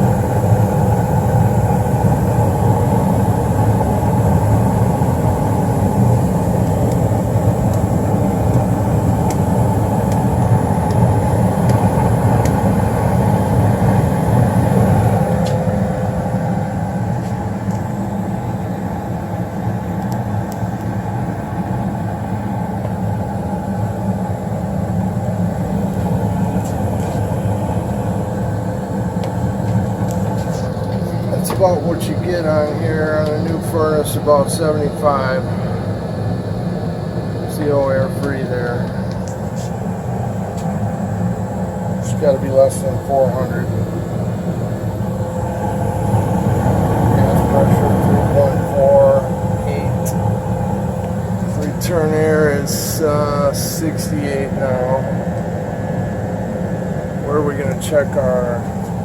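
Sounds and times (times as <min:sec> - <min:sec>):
gas furnace humming: 0:00.0 - 0:59.0.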